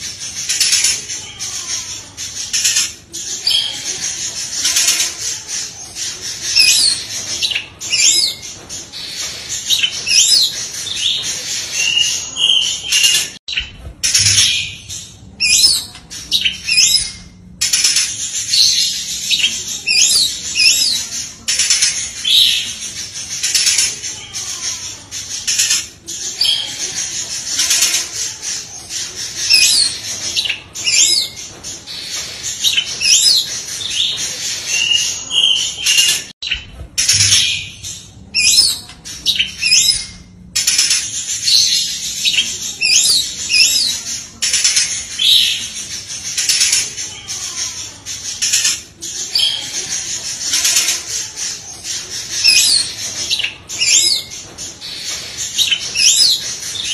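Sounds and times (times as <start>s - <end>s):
songbird singing: 0.0s - 56.9s.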